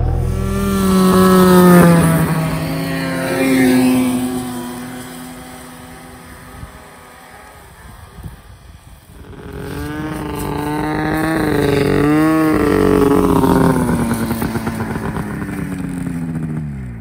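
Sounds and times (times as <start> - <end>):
snowmobile engines: 0.0 - 17.0.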